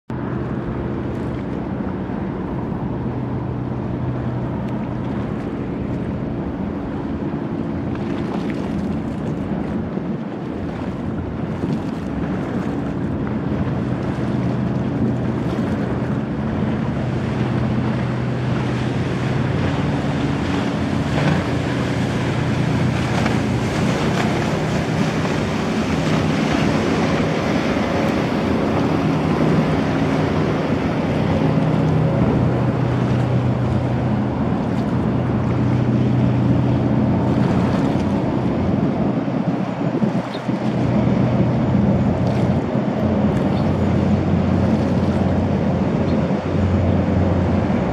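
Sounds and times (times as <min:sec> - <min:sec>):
rushing water: 0:00.1 - 0:47.9
turbine propulsion hum: 0:00.1 - 0:47.9
wind on microphone: 0:00.1 - 0:47.9.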